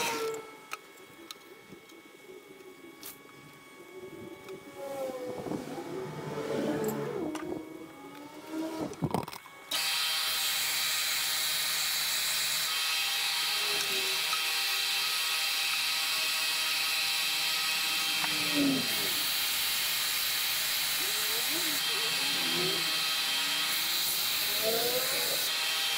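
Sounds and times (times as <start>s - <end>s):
power tool motor whining: 0.0s - 2.1s, 2.8s - 25.9s.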